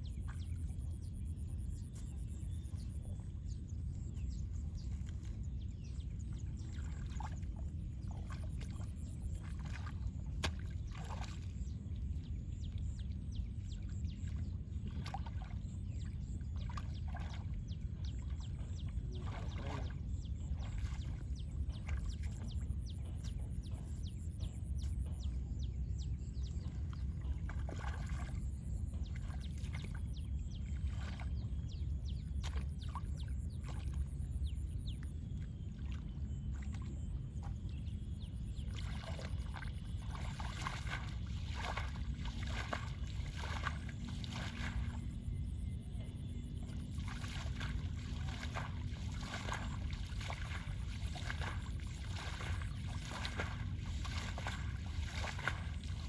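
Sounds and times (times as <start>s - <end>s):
steady low rumble: 0.0s - 56.0s
water splashing and sloshing: 1.7s - 56.0s.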